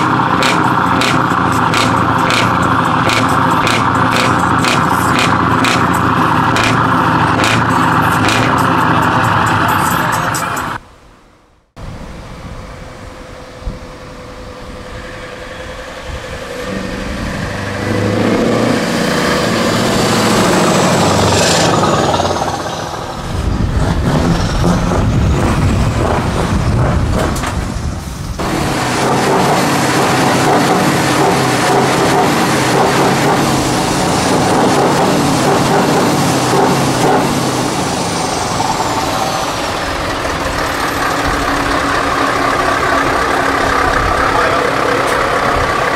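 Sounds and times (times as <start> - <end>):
truck accelerating past: 0.0 - 10.8, 11.9 - 45.9
truck engine idling: 0.0 - 10.9, 12.7 - 45.9.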